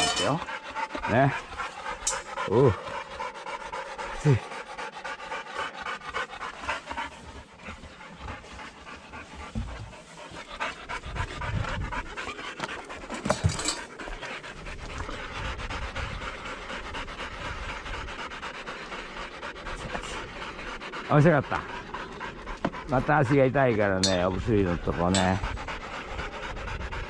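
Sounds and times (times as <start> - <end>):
dogs panting rapidly: 0.0 - 27.0.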